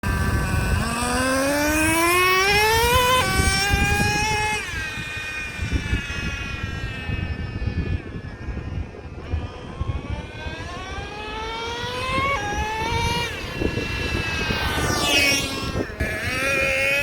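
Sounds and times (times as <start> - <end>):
small engine high whine: 0.0 - 17.0
wind rumble on microphone: 0.0 - 17.0.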